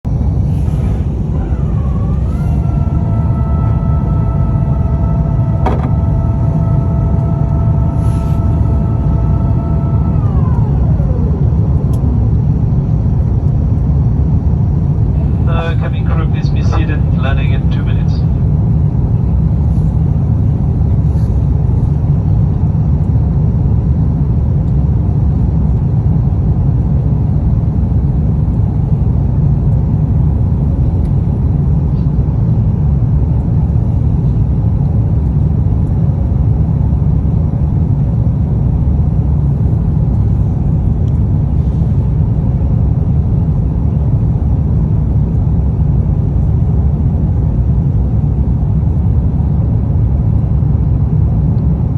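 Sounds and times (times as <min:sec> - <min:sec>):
aircraft cabin drone: 0:00.0 - 0:51.9.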